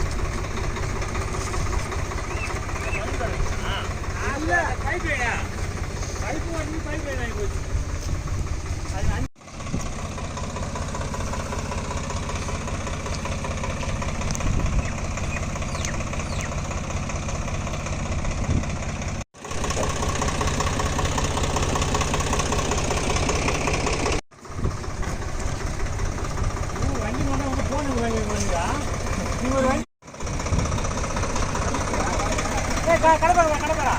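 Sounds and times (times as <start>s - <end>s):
diesel tractor engine running: 0.0s - 33.9s.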